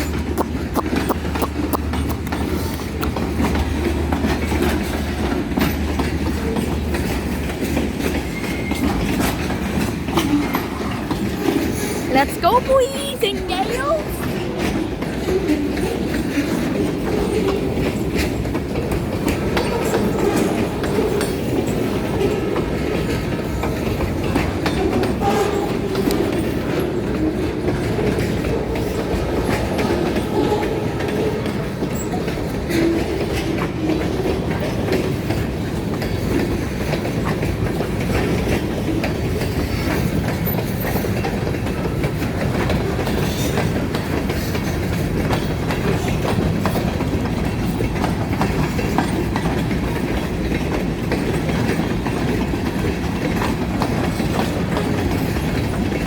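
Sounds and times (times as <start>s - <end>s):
wheels clacking over rail joints: 1.5s - 12.7s, 14.2s - 56.0s
freight train rolling past: 1.7s - 56.0s.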